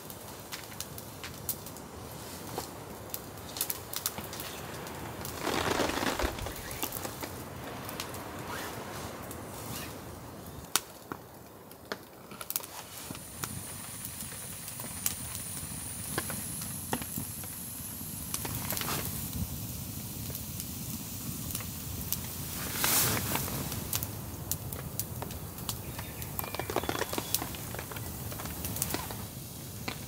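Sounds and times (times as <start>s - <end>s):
campfire crackling: 0.0s - 30.0s
sharp pops of fire: 0.0s - 30.0s.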